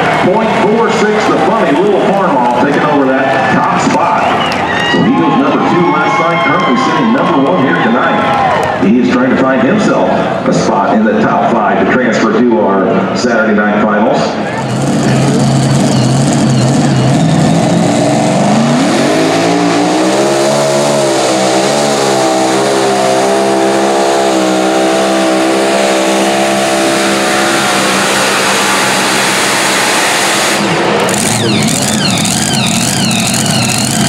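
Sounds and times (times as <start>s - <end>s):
pulling tractor engine at full throttle: 0.0s - 12.4s, 14.2s - 34.0s.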